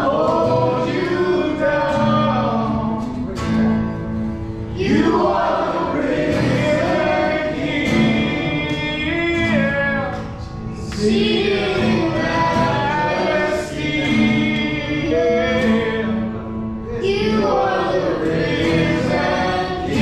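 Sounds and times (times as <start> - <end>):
men singing together: 0.0 - 3.3, 4.7 - 20.0
instrumental accompaniment: 0.0 - 20.0.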